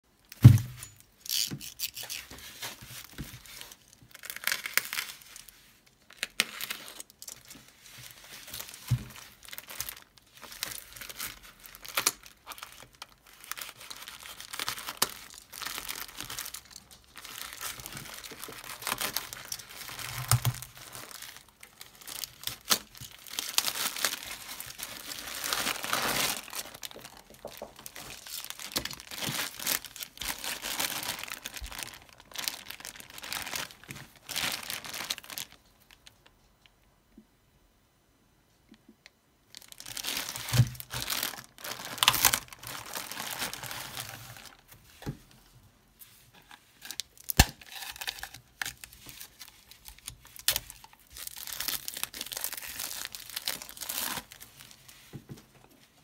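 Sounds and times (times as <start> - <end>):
plastic packaging crinkling: 0.2 - 36.3, 39.5 - 44.8, 46.3 - 55.8.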